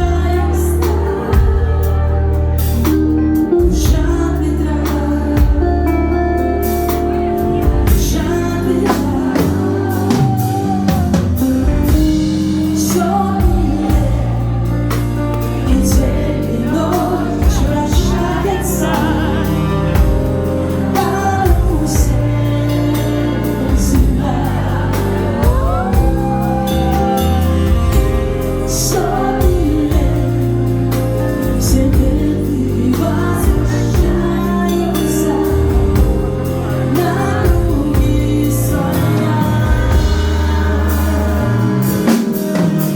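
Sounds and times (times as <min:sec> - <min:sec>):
live band playing: 0:00.0 - 0:42.9
woman singing: 0:00.0 - 0:42.9.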